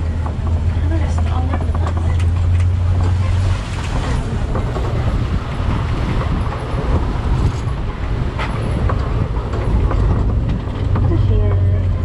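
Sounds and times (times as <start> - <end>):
truck engine and road rumble: 0.0 - 12.0
truck body knocks and rattles: 0.1 - 12.0.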